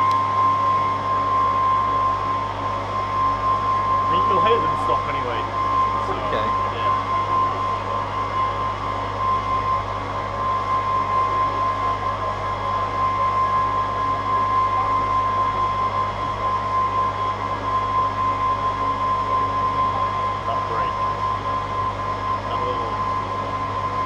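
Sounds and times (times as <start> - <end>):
machine drone with whine: 0.0 - 24.0.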